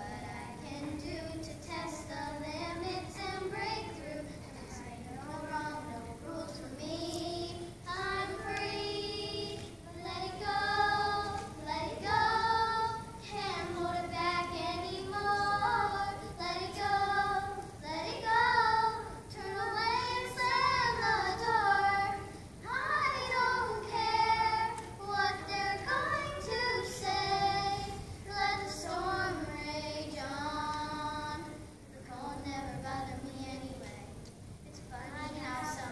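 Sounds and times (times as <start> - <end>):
children singing: 0.0 - 33.2.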